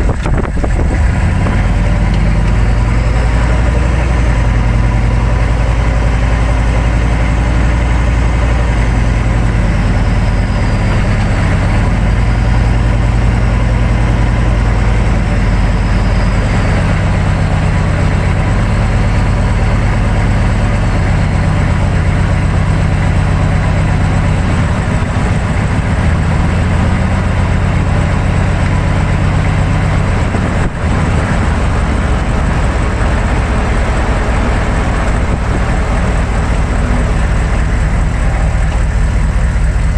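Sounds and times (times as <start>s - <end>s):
diesel truck engine drone: 0.0s - 39.9s
tyre and road noise: 0.0s - 39.9s.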